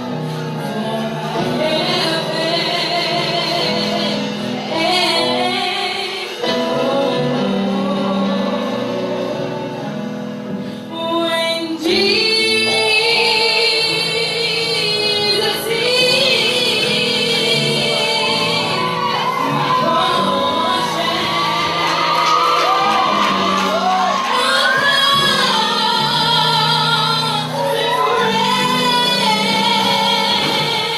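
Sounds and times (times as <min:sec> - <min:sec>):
girl singing gospel song: 0:00.6 - 0:09.5, 0:11.0 - 0:30.9.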